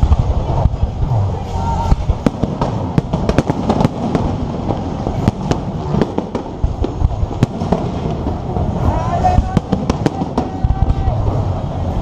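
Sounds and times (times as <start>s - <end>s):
continuous rumble: 0.0s - 12.0s
fireworks bangs and cracks: 0.0s - 12.0s.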